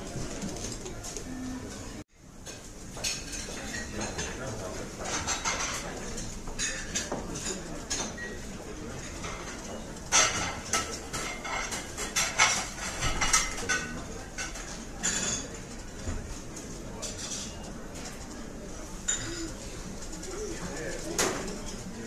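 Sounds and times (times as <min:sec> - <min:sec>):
plates and cutlery clinking: 0:00.0 - 0:18.2, 0:18.9 - 0:22.0.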